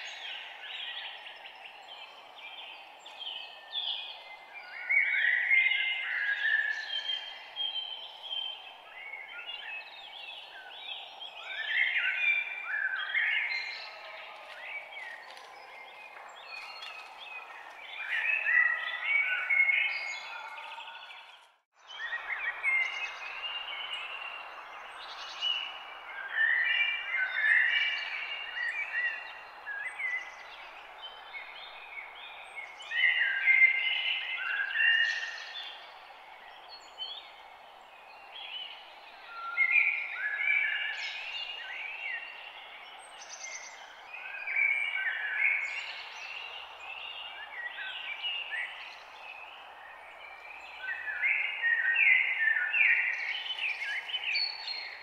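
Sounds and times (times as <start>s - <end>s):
songbirds chirping and warbling: 0.0s - 55.0s.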